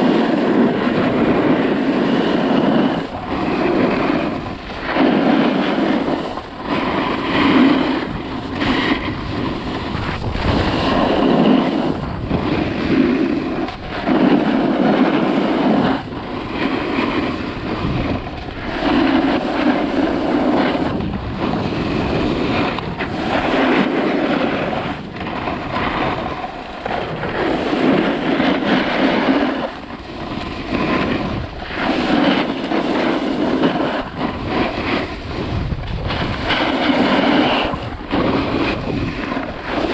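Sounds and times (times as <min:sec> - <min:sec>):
ski edges scraping snow: 0:00.0 - 0:39.9
wind on microphone: 0:00.0 - 0:39.9.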